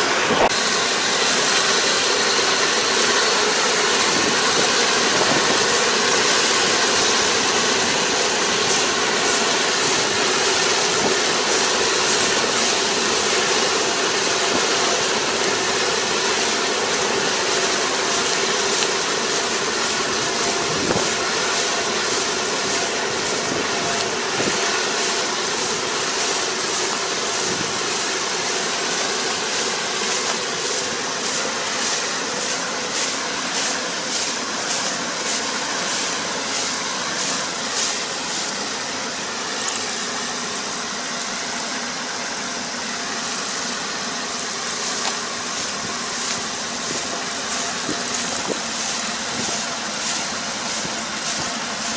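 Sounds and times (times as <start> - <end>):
farm machine engine running: 0.0 - 51.9.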